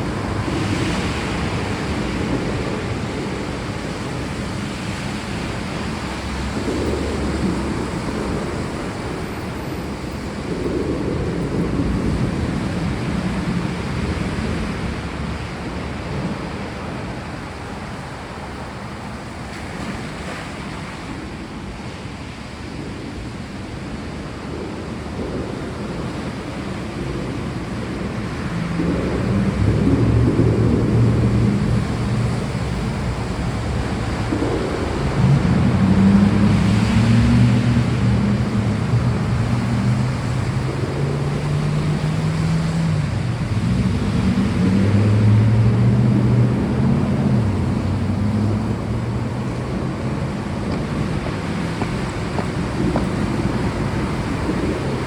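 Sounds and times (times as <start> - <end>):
rolling thunder: 0.0 - 21.2, 22.6 - 55.0
steady rain: 0.0 - 55.0.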